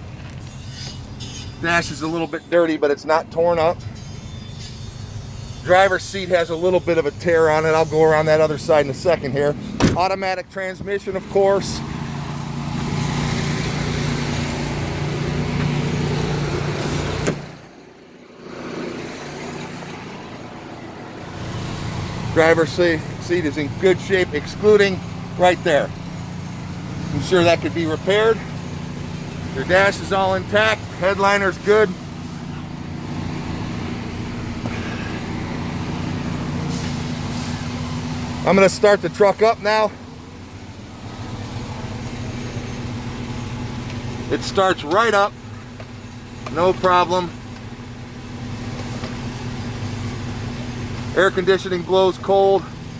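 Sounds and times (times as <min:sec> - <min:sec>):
vehicle engine idling: 0:00.0 - 0:52.9.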